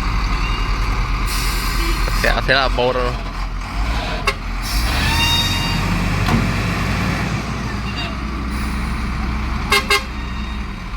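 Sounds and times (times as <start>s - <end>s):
diesel truck engine running: 0.0s - 10.9s.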